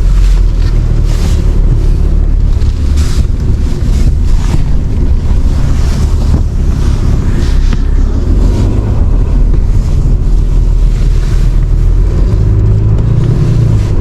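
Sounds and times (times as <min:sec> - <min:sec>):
truck engine drone: 0:00.0 - 0:14.0.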